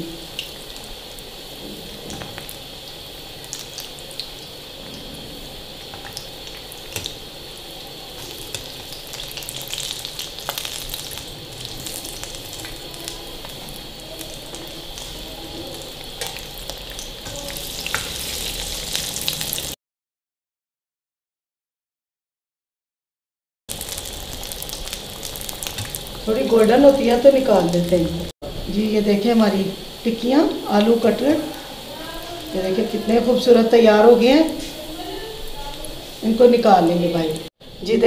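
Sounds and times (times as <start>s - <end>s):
food deep-frying in hot oil: 0.0s - 19.8s, 23.7s - 38.0s.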